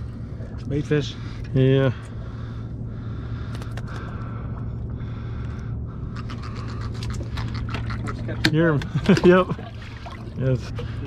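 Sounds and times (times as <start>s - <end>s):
boat engine hum: 0.0s - 11.0s.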